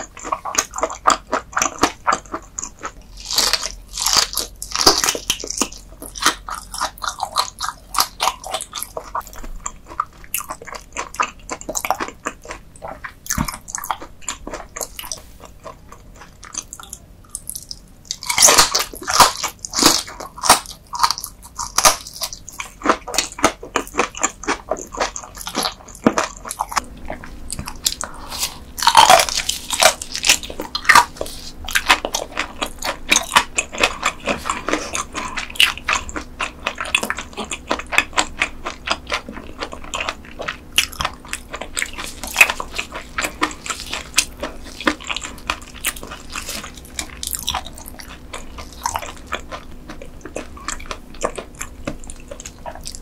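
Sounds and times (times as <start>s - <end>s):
crunchy chewing of raw fish: 0.0s - 53.0s.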